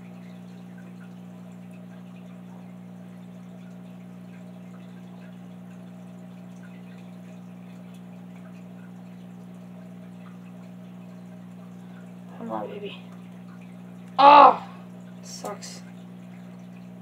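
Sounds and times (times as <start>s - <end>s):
steady low hum: 0.0s - 17.0s
water trickling and dripping: 0.0s - 17.0s.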